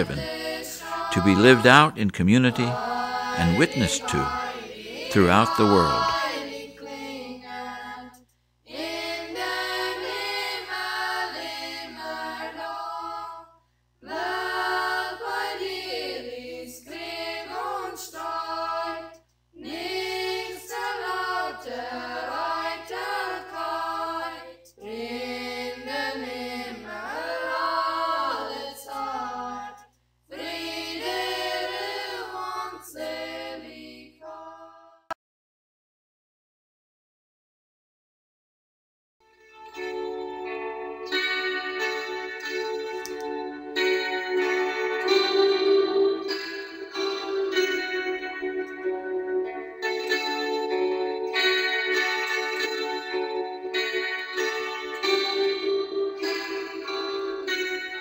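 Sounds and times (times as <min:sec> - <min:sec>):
unaccompanied voices singing: 0:00.0 - 0:35.0, 0:42.4 - 0:58.0.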